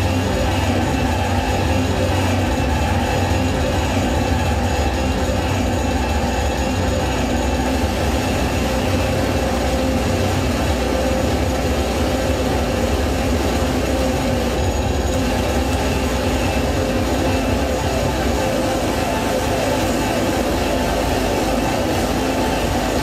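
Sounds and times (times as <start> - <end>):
electronic noise drone: 0.0 - 23.0.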